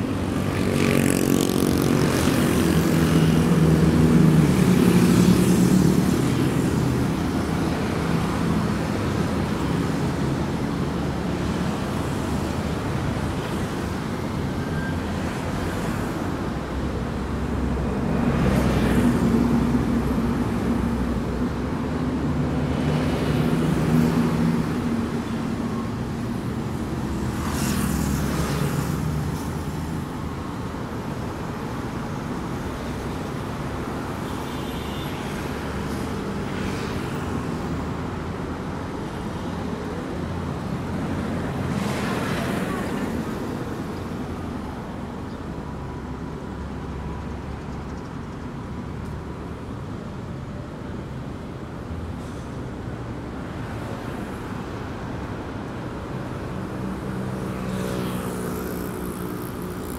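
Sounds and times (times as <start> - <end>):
traffic engine drone: 0.0 - 59.9
vehicles passing close by: 0.0 - 59.9.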